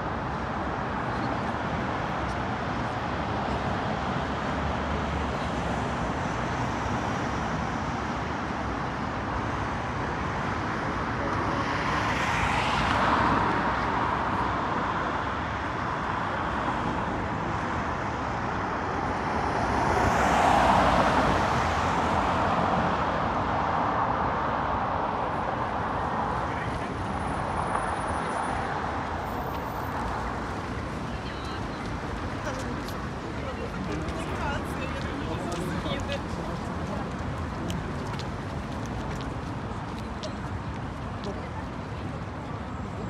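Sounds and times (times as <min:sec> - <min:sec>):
road traffic hum: 0:00.0 - 0:43.0
vehicles passing close by: 0:00.0 - 0:43.0.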